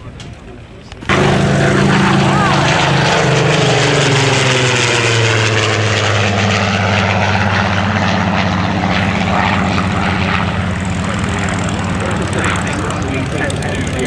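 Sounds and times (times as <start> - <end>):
piston aircraft engine droning: 0.0 - 14.0.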